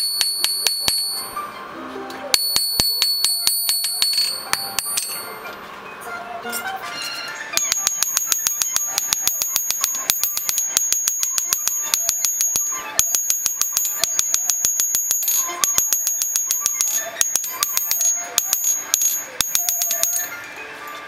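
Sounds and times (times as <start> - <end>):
hammer striking metal on anvil: 0.0 - 1.4, 2.3 - 5.3, 7.6 - 20.3.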